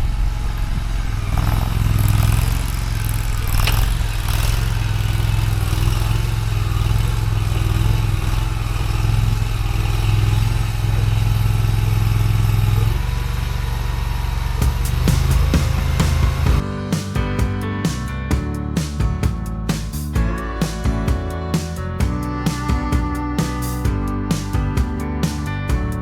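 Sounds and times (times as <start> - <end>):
skid steer engine running: 0.0 - 26.0.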